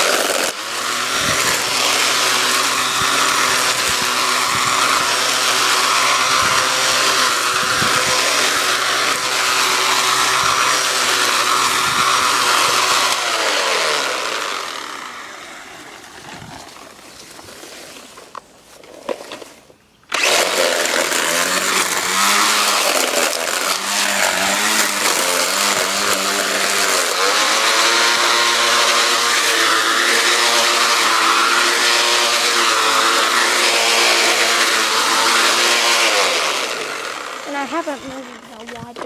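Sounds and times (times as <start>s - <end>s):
small mower motor running: 0.0s - 17.0s, 20.1s - 39.0s
trimmer line cutting weeds: 0.0s - 18.1s, 20.1s - 39.0s.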